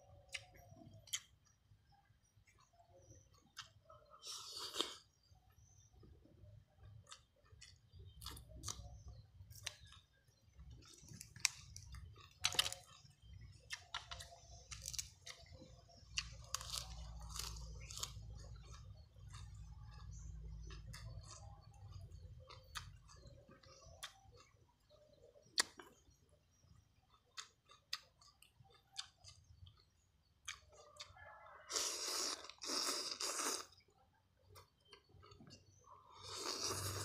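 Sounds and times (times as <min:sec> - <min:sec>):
person chewing crunchy food: 0:00.1 - 0:01.6, 0:02.4 - 0:05.8, 0:06.5 - 0:37.0.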